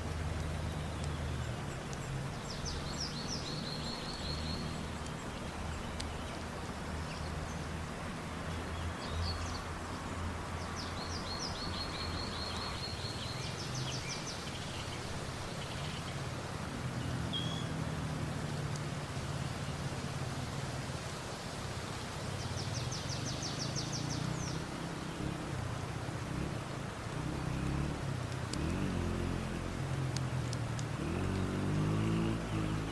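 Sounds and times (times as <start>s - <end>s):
songbird singing: 0.0s - 20.1s, 22.2s - 32.9s.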